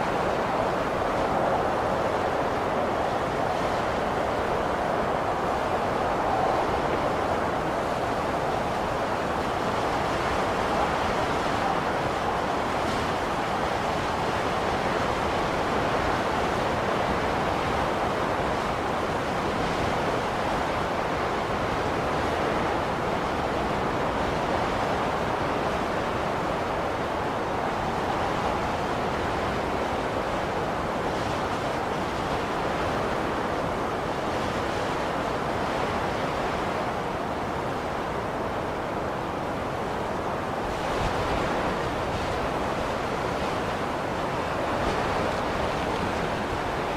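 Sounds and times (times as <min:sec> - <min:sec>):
blizzard wind rushing: 0:00.0 - 0:46.9.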